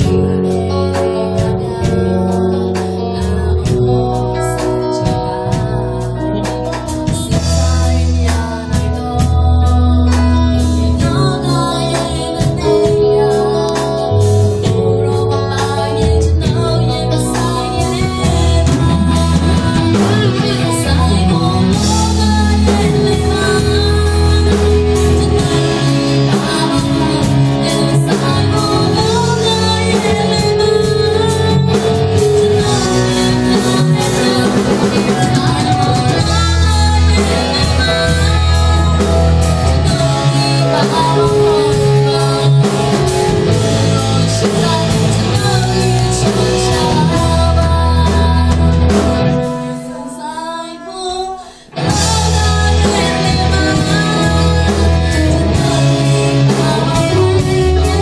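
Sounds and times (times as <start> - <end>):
amplified live band: 0.0 - 58.0
woman singing into microphone: 0.0 - 58.0.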